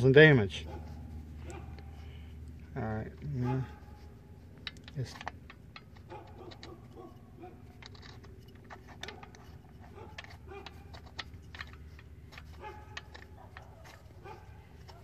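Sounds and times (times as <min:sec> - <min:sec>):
low steady background hum: 0:00.0 - 0:15.0
light clicks and scrapes of spark plug: 0:00.7 - 0:15.0.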